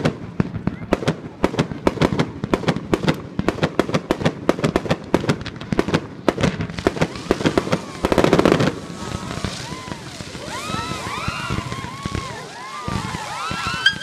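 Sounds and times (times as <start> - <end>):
firecrackers banging: 0.0 - 14.0.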